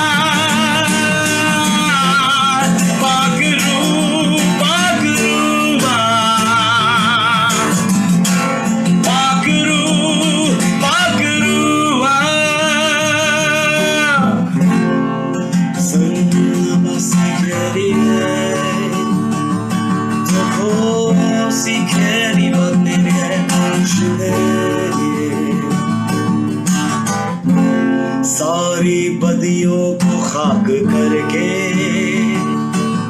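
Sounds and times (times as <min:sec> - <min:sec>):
guitar strumming: 0:00.0 - 0:33.0.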